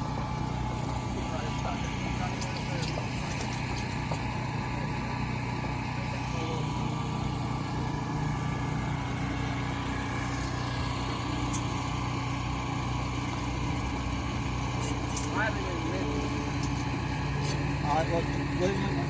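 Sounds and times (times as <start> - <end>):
generator engine droning: 0.0 - 19.0.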